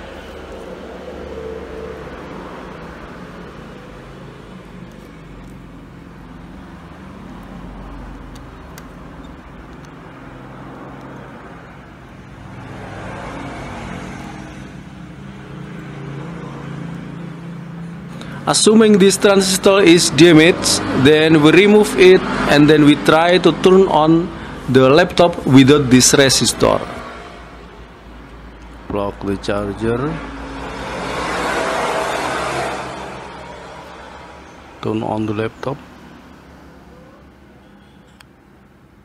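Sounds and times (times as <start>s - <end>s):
vehicle passing: 0.0s - 37.6s
road traffic hum: 0.0s - 39.0s.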